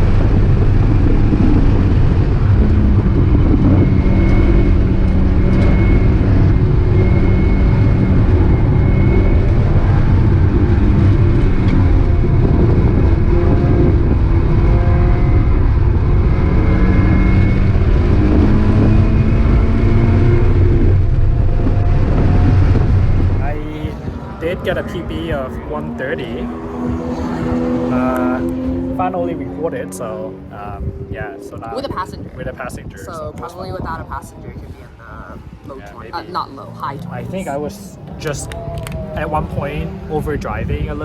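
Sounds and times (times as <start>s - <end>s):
car engine at speed: 0.0s - 41.0s
road noise: 0.0s - 41.0s
wind noise: 0.0s - 41.0s.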